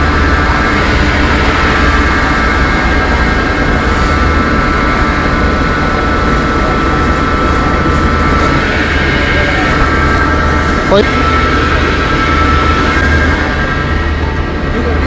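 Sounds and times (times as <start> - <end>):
pump engine running with whine: 0.0 - 15.0.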